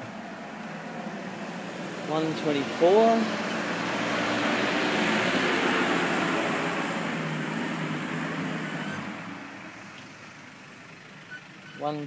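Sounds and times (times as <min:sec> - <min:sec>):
road vehicle passing: 0:00.0 - 0:11.9.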